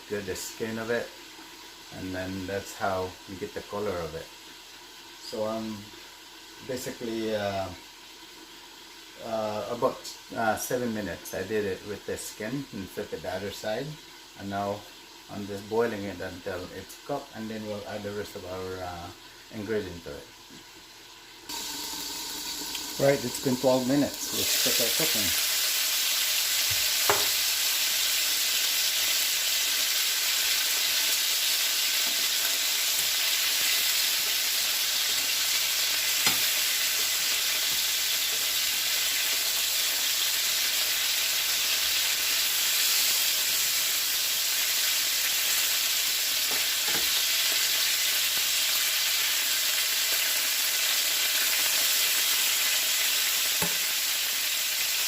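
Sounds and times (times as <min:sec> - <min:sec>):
chicken sizzling in a pan: 0:00.0 - 0:55.0.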